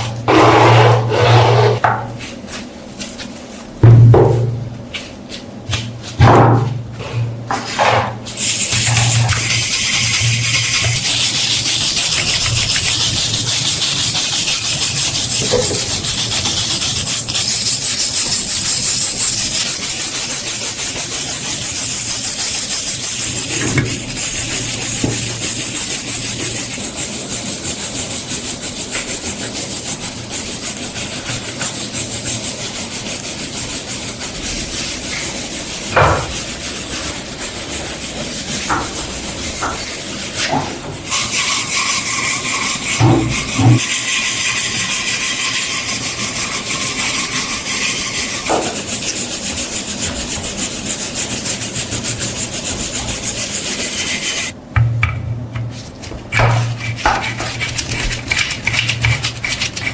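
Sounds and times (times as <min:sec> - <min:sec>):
abrasive rubbing and scraping: 0:00.0 - 0:05.0, 0:07.0 - 0:54.6.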